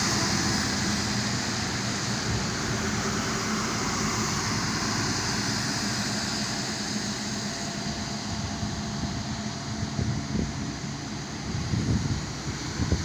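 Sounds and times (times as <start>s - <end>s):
road and wind noise: 0.0s - 13.0s
truck engine drone: 0.0s - 13.0s.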